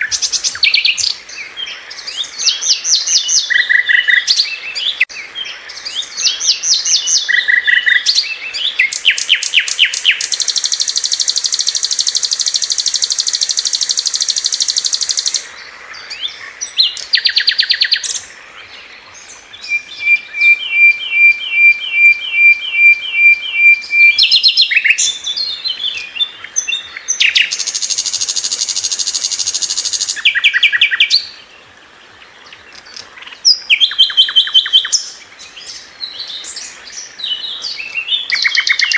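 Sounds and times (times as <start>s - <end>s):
songbird singing trills and rattles: 0.0s - 31.4s, 32.3s - 38.9s.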